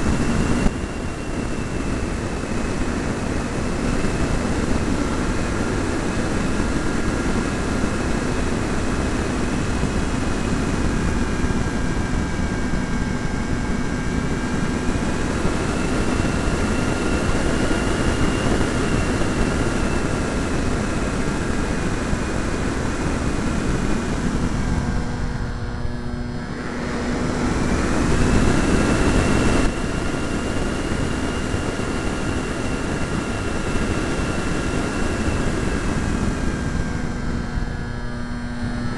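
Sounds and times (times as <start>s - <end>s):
electric motor and propeller whine: 0.0s - 38.9s
wind rush on camera: 0.0s - 38.9s.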